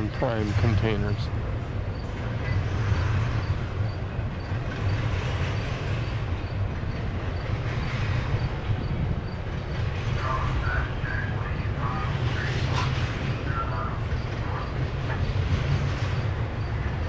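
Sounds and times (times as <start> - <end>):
freight cars rumbling past: 0.0 - 17.0.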